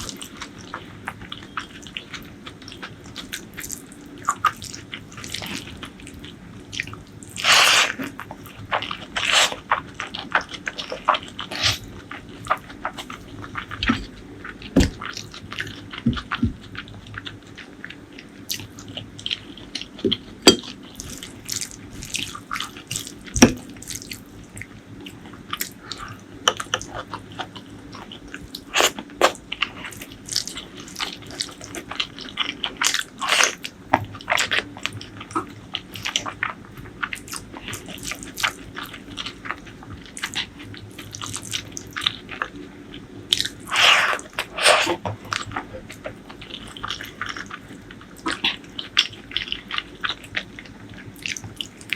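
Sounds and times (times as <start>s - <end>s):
wet chewing and lip smacks: 0.0s - 42.6s.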